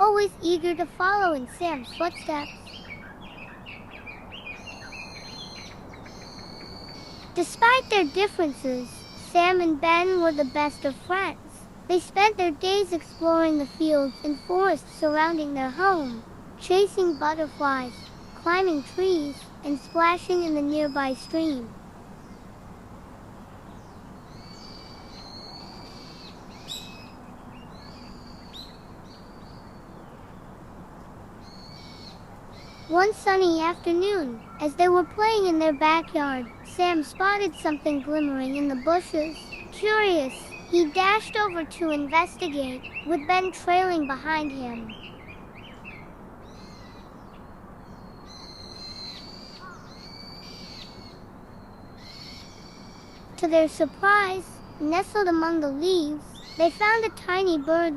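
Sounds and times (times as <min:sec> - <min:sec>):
birds whistling calls: 0:00.0 - 0:11.5, 0:12.9 - 0:22.5, 0:23.7 - 0:30.5, 0:31.4 - 0:57.9
background hiss: 0:00.0 - 0:57.9.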